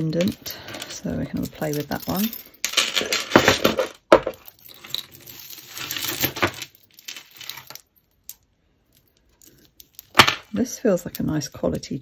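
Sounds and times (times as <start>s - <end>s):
jewellery chains and beads jangling: 0.0s - 11.5s.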